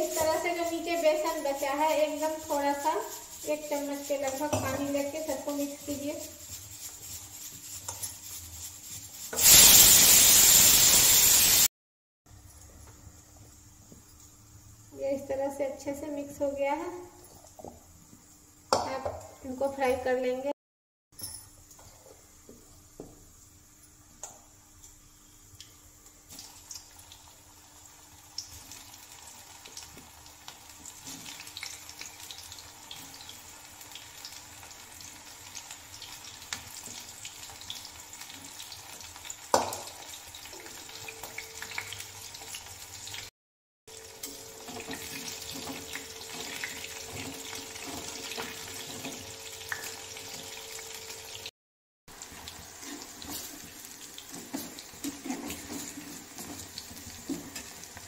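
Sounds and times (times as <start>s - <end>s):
food deep-frying in oil: 0.0s - 11.7s, 21.8s - 43.3s, 43.9s - 51.5s, 52.1s - 58.0s.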